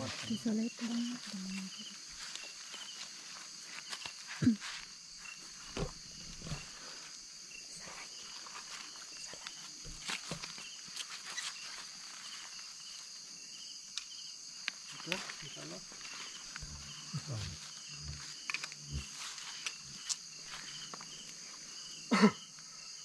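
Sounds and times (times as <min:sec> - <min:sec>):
night insects chorus: 0:00.0 - 0:23.0.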